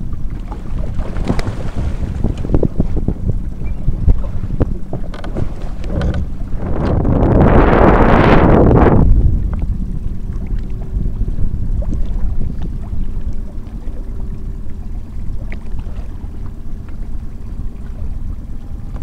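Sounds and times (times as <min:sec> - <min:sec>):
faint steady hum: 0:00.0 - 0:19.0
water sloshing around boat: 0:00.0 - 0:19.0
wind rumbling on microphone: 0:00.0 - 0:19.0.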